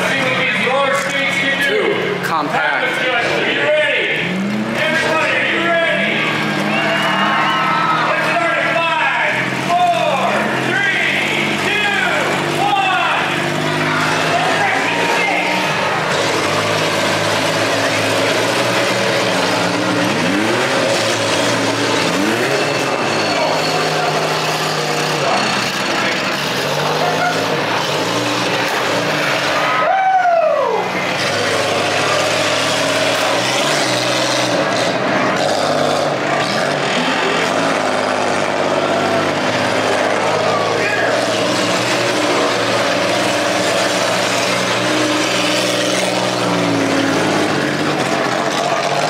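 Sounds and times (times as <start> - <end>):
car engines revving: 0.0 - 49.0.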